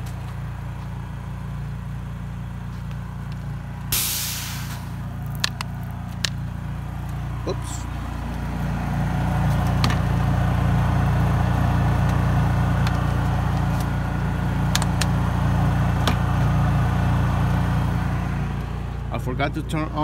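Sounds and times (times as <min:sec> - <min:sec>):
generator humming: 0:00.0 - 0:20.0.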